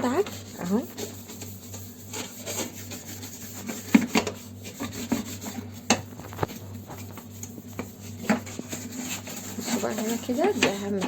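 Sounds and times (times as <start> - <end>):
scrubbing rubbing strokes: 0.0 - 11.0.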